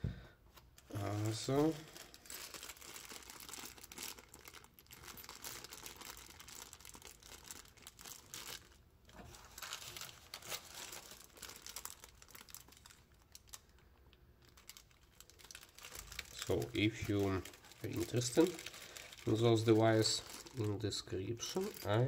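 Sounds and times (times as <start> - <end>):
plastic bags crinkling: 0.8 - 22.0.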